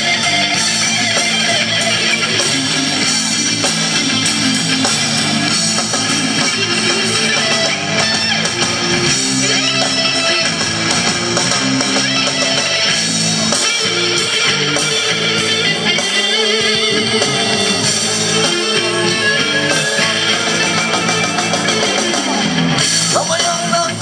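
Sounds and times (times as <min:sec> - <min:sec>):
loud instrumental rock music: 0:00.0 - 0:24.0.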